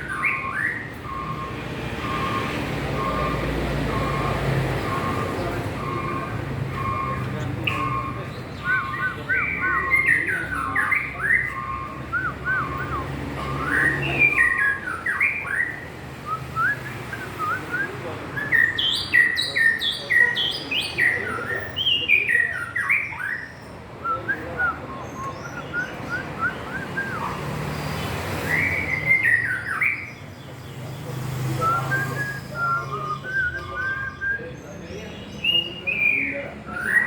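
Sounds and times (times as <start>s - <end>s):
songbird singing whistles: 0.0s - 37.0s.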